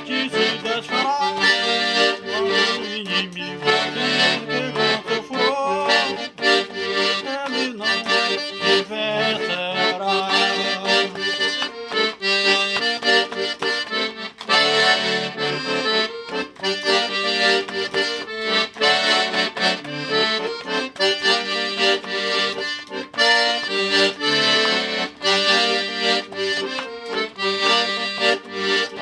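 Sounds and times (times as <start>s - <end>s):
accordion playing hymn tune: 0.0s - 29.0s.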